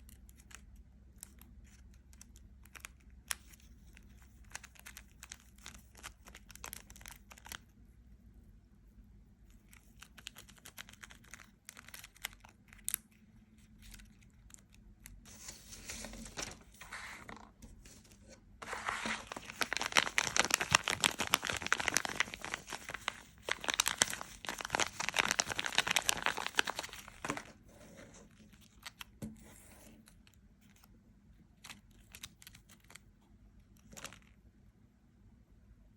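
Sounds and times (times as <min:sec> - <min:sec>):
crinkling and crackling by hand: 0:00.0 - 0:34.6.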